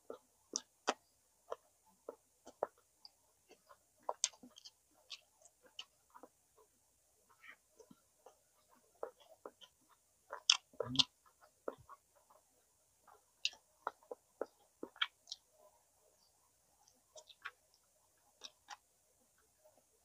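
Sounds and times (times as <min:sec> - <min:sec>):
person chewing food: 0:00.0 - 0:06.4, 0:07.3 - 0:15.5, 0:16.2 - 0:19.5.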